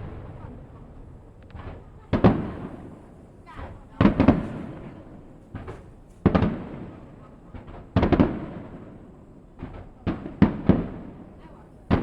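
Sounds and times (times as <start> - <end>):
fireworks bursting with bangs: 0.0 - 12.0.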